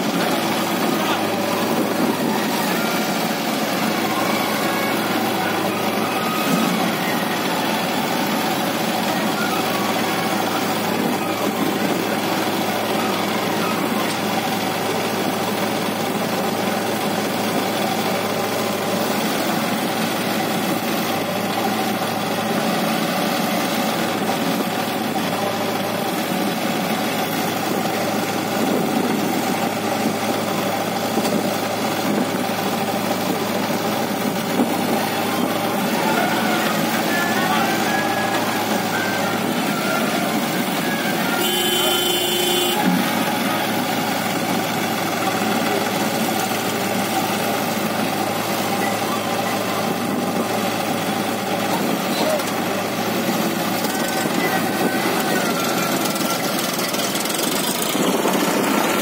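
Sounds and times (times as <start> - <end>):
diesel engines idling: 0.0 - 59.0.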